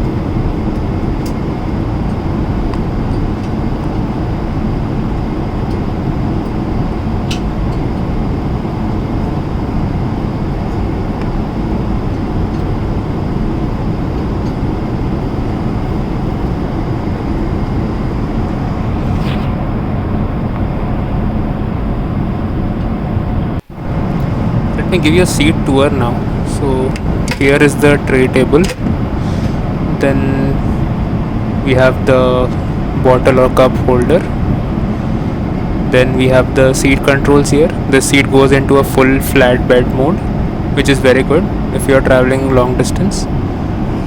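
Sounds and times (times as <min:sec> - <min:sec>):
airliner cabin noise: 0:00.0 - 0:44.0.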